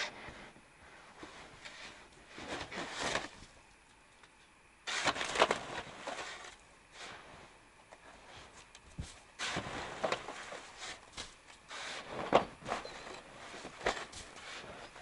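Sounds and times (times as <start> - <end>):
snow shovel scraping snow: 0.0 - 3.4, 4.8 - 7.5, 8.1 - 15.0.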